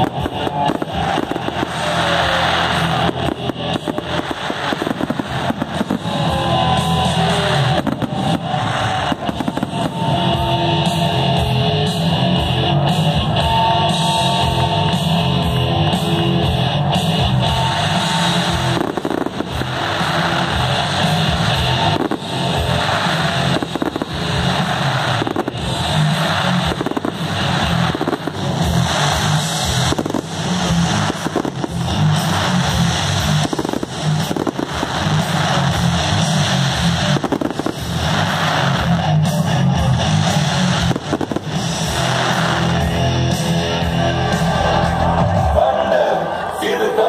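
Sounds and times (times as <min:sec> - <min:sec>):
fireworks bursting: 0:00.0 - 0:47.0
loud music: 0:00.0 - 0:47.0.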